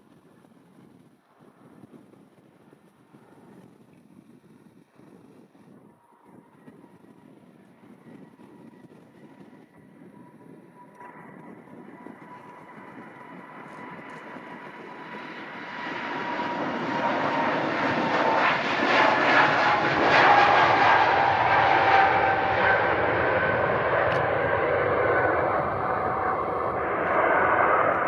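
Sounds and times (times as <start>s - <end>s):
jet engine whine: 0.0s - 28.0s.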